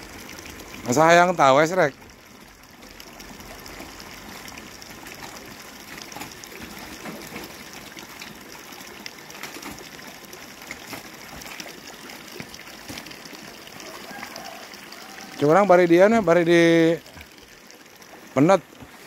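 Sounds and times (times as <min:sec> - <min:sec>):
shallow water trickling: 0:00.0 - 0:19.0
faint small splashes: 0:02.0 - 0:19.0.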